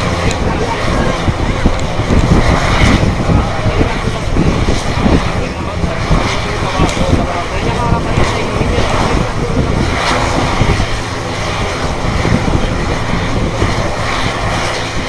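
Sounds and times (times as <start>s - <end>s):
aircraft engines rumbling: 0.0s - 15.0s
wind on microphone: 0.0s - 15.0s.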